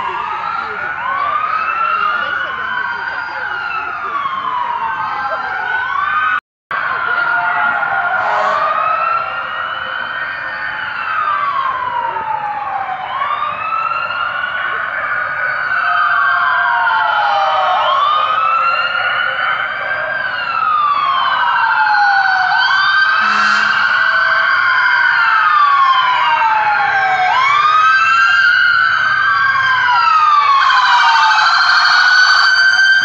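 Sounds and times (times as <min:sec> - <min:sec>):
fire truck sirens wailing: 0:00.0 - 0:33.0.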